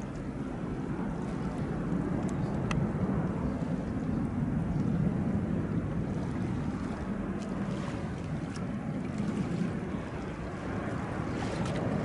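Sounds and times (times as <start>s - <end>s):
jet engines rumbling: 0.0s - 12.0s
wind on microphone: 0.0s - 12.0s.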